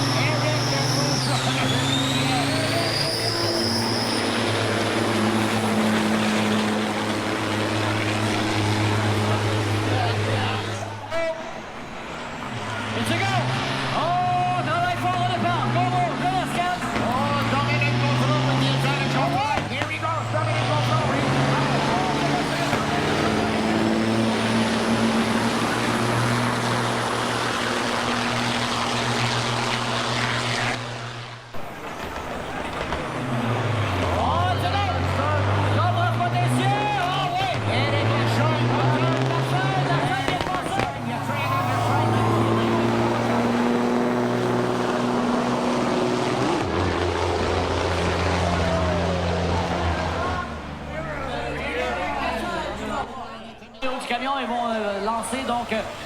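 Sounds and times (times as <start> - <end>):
truck diesel engine running hard: 0.0 - 53.6.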